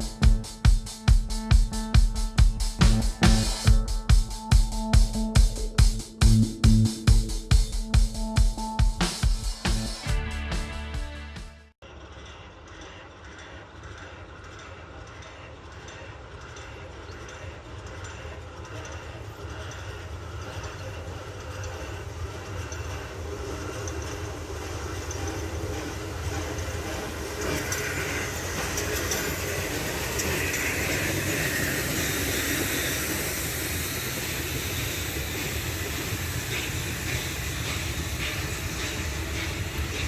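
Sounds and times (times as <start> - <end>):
train rumbling on rails: 0.0 - 11.2, 11.8 - 40.0.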